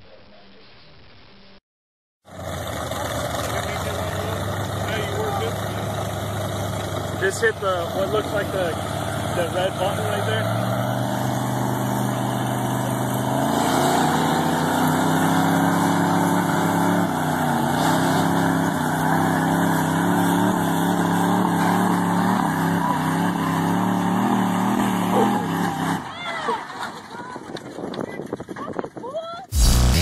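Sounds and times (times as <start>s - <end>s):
truck engines straining: 2.3s - 30.0s.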